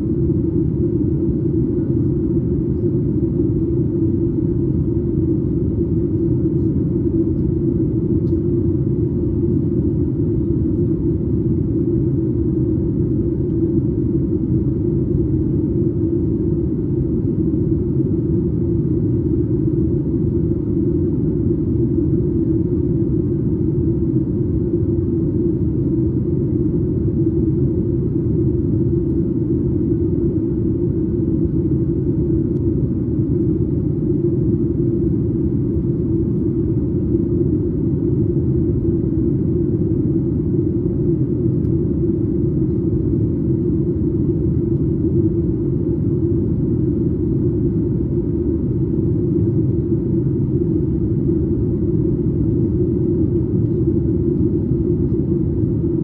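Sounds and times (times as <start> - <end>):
airflow over fuselage: 0.0 - 56.0
faint steady hum: 0.0 - 56.0
jet engines rumbling: 0.0 - 56.0.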